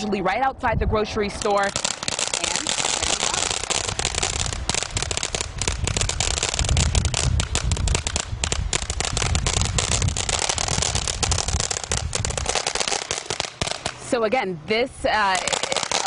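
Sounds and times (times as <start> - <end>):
rapid firework crackling: 1.3 - 14.1, 15.2 - 16.0
firework sparks hissing: 1.3 - 14.2, 15.1 - 16.0.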